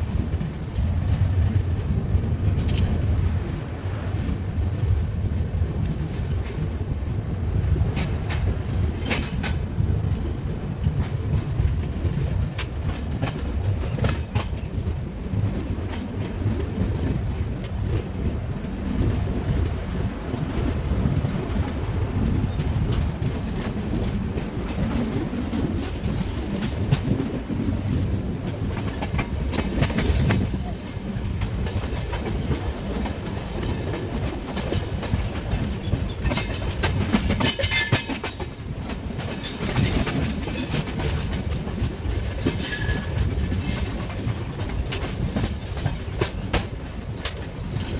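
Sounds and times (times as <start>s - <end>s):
low rumble of train wheels: 0.0s - 47.9s
wheels clacking over rail joints: 0.1s - 3.6s, 7.6s - 10.2s, 10.8s - 47.9s.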